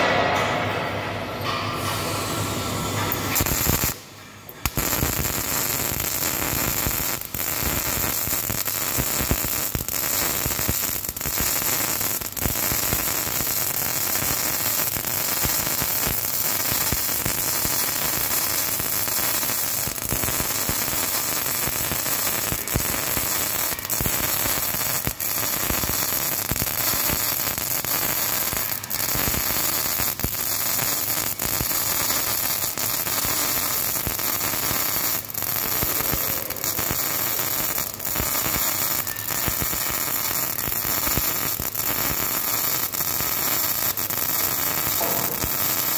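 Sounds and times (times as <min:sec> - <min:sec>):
welding arc crackling hiss: 0:01.8 - 0:45.9.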